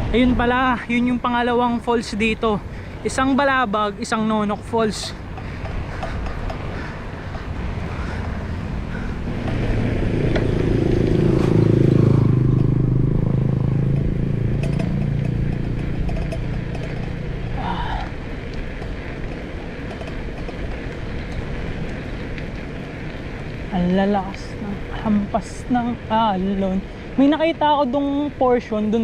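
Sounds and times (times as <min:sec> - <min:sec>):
vehicle engine passing: 0:02.6 - 0:27.8
wind on microphone: 0:03.9 - 0:29.0.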